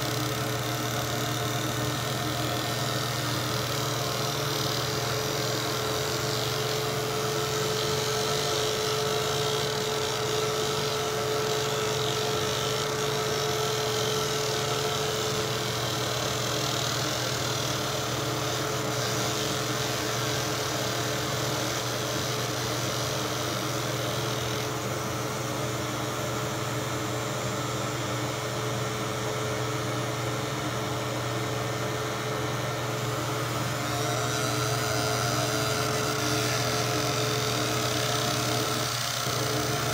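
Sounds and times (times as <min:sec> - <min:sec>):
laser engraving machine hum: 0:00.0 - 0:39.9.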